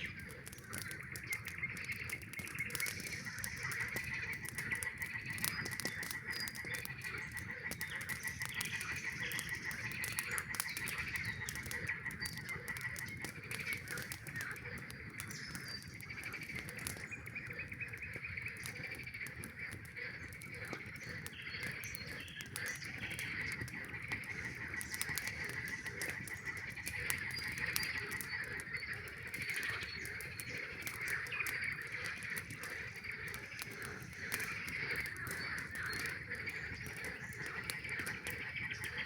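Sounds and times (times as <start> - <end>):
campfire crackling: 0.0 - 39.0
chorus of frogs calling: 0.0 - 39.0.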